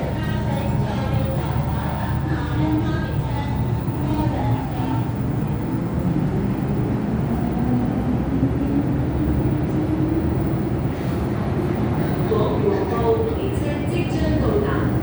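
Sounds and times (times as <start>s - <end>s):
faint hum: 0.0s - 15.0s
metro car running: 0.0s - 15.0s.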